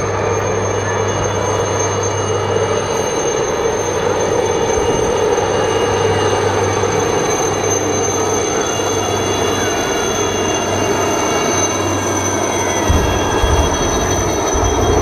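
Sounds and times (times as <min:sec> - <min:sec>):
helicopters flying low past: 0:00.0 - 0:15.0.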